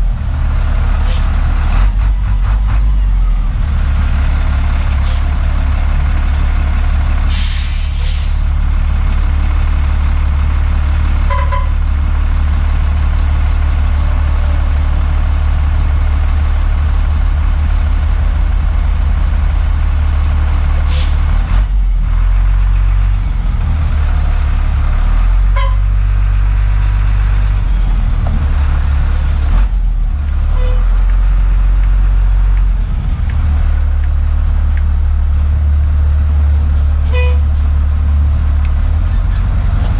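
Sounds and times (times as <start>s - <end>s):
large machine rumbling: 0.0s - 39.9s.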